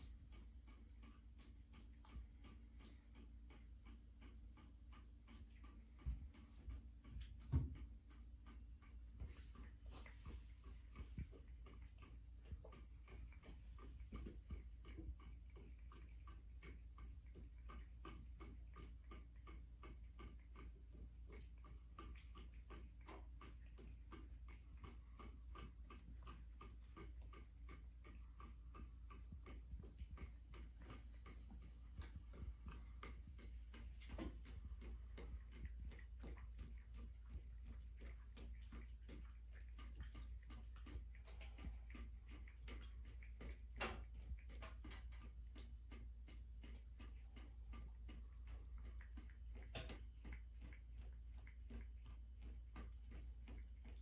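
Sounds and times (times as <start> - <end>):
cat lapping water: 0.0 - 54.0.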